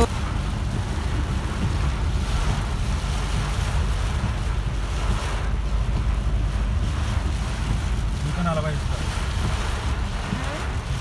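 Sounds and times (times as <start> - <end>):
heavy rain hiss: 0.0 - 11.0
road noise rumble: 0.0 - 11.0.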